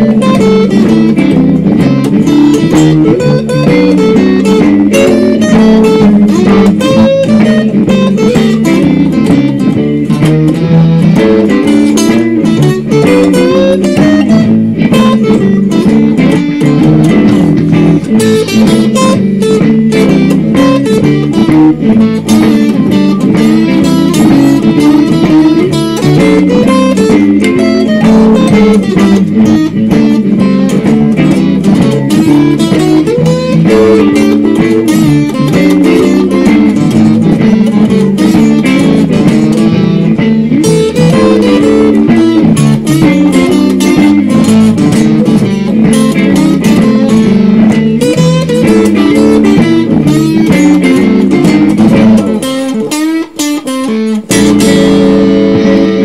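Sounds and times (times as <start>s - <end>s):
electric guitar blues shuffle: 0.0s - 56.0s.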